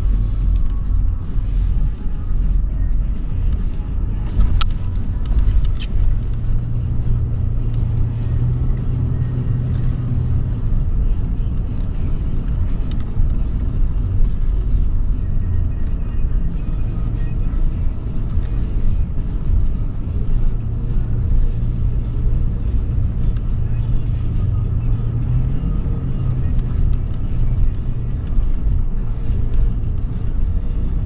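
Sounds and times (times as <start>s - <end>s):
engine low rumble while driving: 0.0s - 31.0s.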